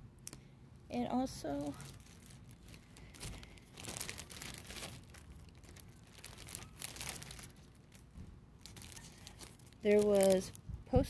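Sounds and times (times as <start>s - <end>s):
plastic sleeves crinkling: 1.3s - 11.0s.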